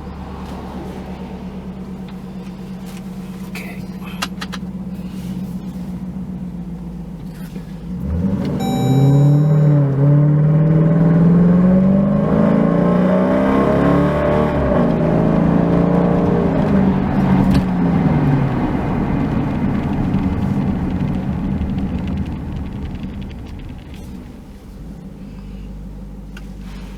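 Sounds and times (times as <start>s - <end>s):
car engine accelerating: 4.2s - 26.9s.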